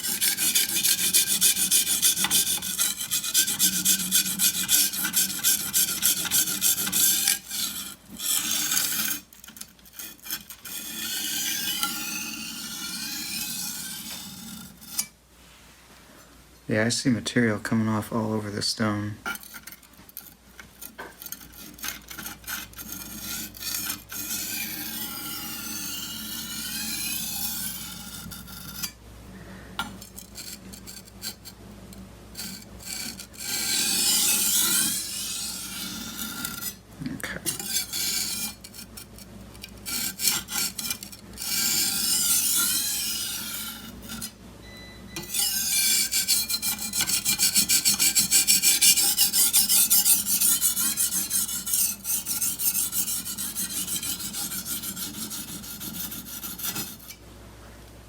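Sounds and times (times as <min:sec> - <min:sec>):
knife scraping on sharpening stone: 0:00.0 - 0:15.1, 0:19.3 - 0:29.0, 0:29.8 - 0:31.6, 0:32.4 - 0:36.8, 0:37.5 - 0:44.4, 0:45.2 - 0:57.2.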